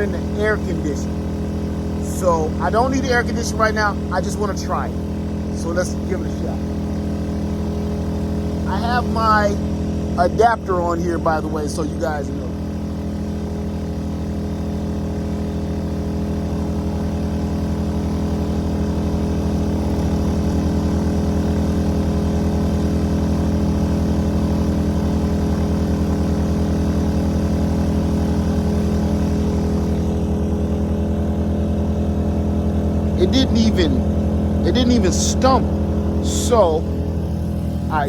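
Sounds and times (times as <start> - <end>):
generator running: 0.0 - 38.0.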